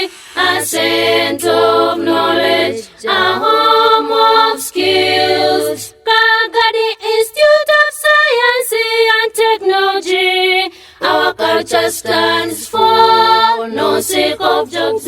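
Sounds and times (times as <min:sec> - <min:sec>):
voices singing an anthem: 0:00.0 - 0:15.0.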